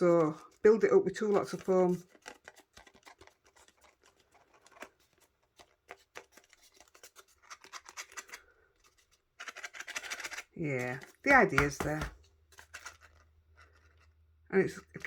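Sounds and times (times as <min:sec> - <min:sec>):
hands handling card pieces: 0:00.0 - 0:14.2.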